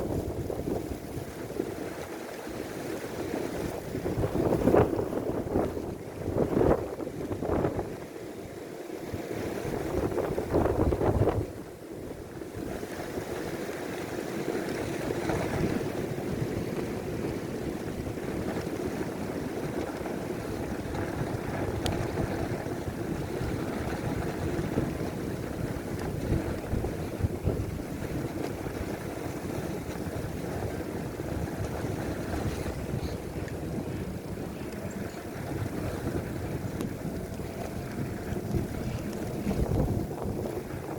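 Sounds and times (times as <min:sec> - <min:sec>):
bicycle road noise: 0:00.0 - 0:40.9
wind on microphone: 0:00.0 - 0:40.9.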